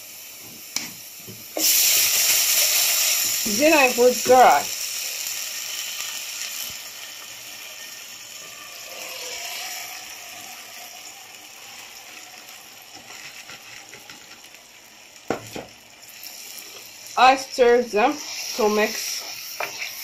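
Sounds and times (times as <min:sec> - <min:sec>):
mixture bubbling and sizzling in pan: 0:00.0 - 0:20.0.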